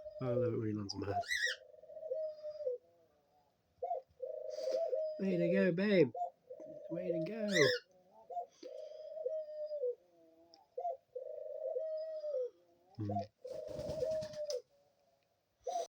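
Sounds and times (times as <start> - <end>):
doves cooing: 0.0 - 14.9, 15.6 - 15.9.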